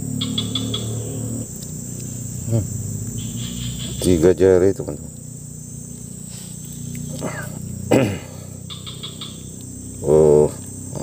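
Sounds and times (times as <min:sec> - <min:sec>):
high-pitched insect noise: 0:00.0 - 0:11.0.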